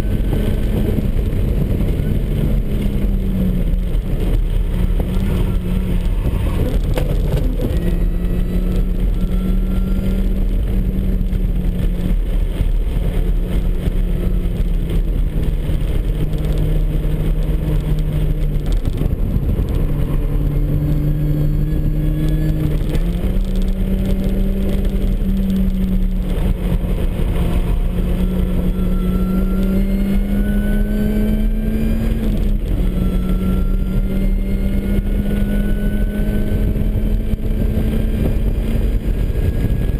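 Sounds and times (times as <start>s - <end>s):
car engine revving through gears: 0.0s - 39.9s
road and wind noise: 0.0s - 39.9s.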